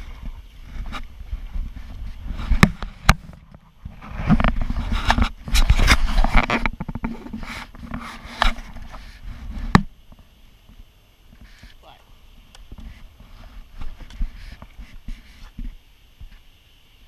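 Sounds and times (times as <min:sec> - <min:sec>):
rustling and scraping: 0:00.0 - 0:16.6.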